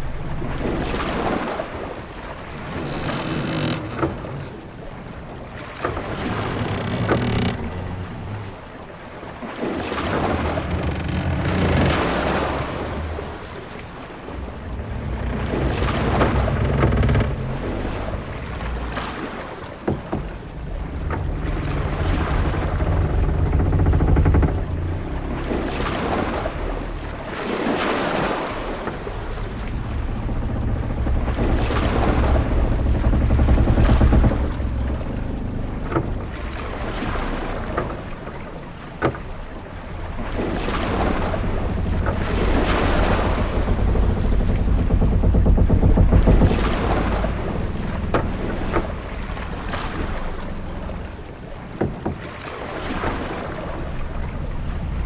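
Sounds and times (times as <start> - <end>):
low rumble: 0.0 - 8.7, 10.0 - 51.6, 53.2 - 55.0
sea waves washing against ship: 0.0 - 55.0
ship timbers creaking: 0.0 - 55.0.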